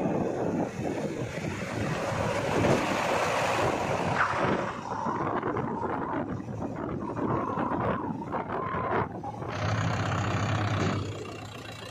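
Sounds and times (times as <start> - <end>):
wind rushing over microphone: 0.0 - 11.2
diesel engine driving: 0.0 - 11.9.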